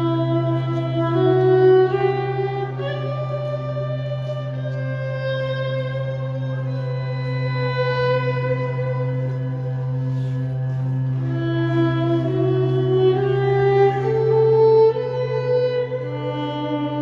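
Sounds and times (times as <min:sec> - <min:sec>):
steady low drone: 0:00.0 - 0:17.0
violin long held notes: 0:00.0 - 0:17.0.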